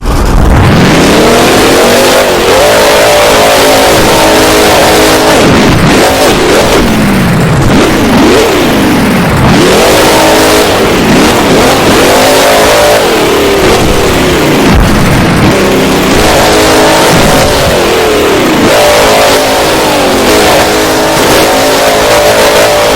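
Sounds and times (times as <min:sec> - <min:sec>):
truck engine revving hard: 0:00.0 - 0:22.9.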